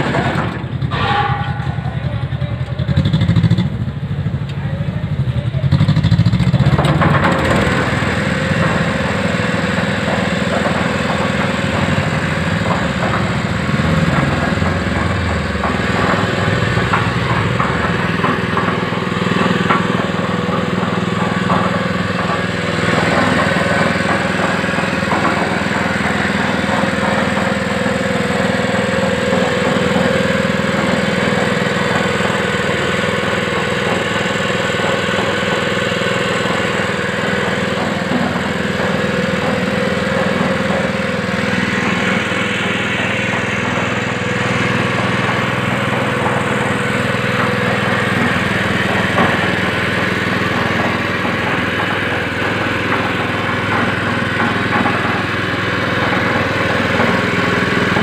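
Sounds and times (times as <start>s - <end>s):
concrete mixer engine running: 0.0s - 58.0s.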